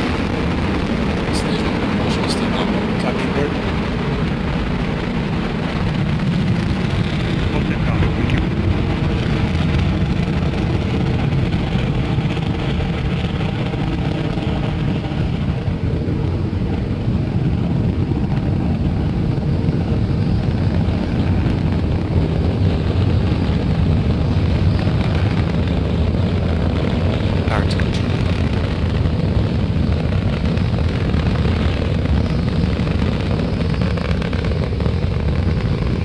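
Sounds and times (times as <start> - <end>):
rocket engines rumbling: 0.0 - 36.0.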